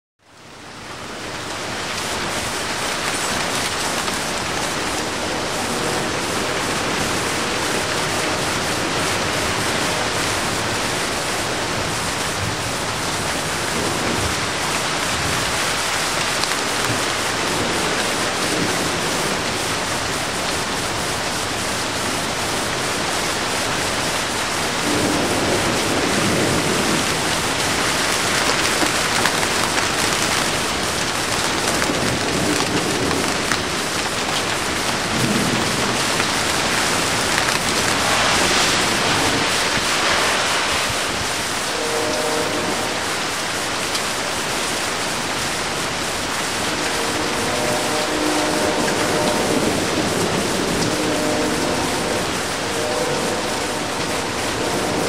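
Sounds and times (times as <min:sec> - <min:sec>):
steady rain falling: 0:00.2 - 0:55.0.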